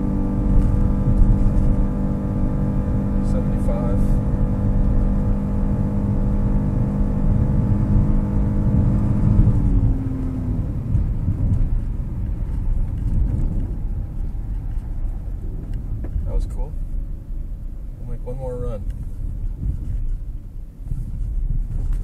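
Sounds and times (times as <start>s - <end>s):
car engine running: 0.0s - 22.0s
low road rumble: 0.0s - 22.0s.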